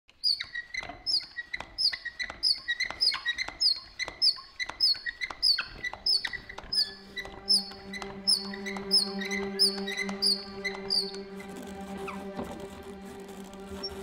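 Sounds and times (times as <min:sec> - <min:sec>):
spinning wheel squeaking and clicking: 0:00.2 - 0:11.5.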